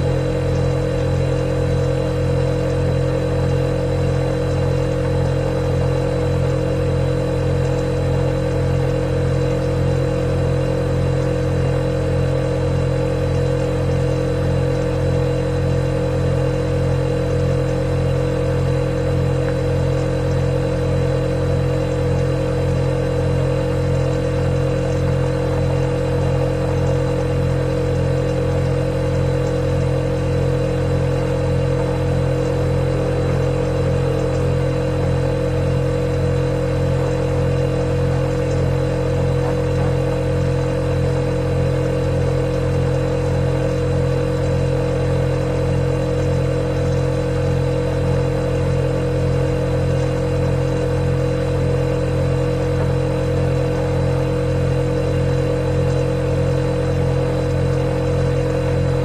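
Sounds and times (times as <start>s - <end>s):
compressor motor buzzing: 0.0s - 59.0s
refrigerator low hum: 0.0s - 59.0s.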